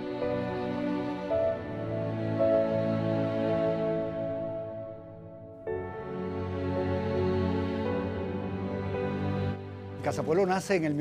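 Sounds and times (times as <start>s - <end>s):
slow music with held chords: 0.0s - 11.0s.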